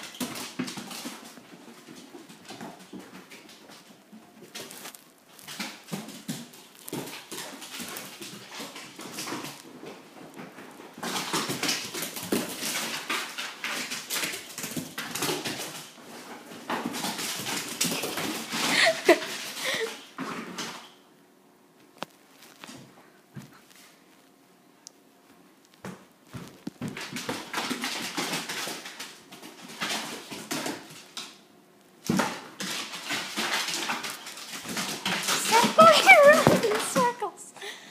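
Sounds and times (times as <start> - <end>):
puppy claws clicking on wood floor: 0.0 - 20.8, 25.7 - 31.4, 32.0 - 37.2.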